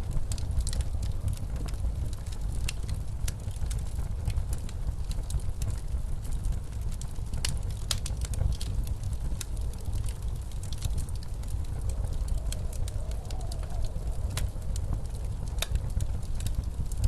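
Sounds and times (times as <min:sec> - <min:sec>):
low rumble of blizzard wind: 0:00.0 - 0:17.0
wood fire crackling in fireplace: 0:00.0 - 0:17.0.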